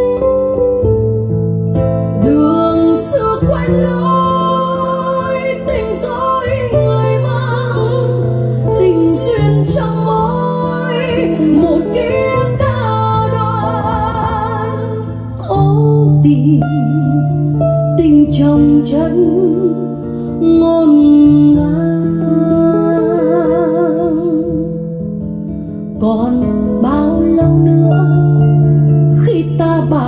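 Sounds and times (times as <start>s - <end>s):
slow ballad: 0.0s - 30.0s.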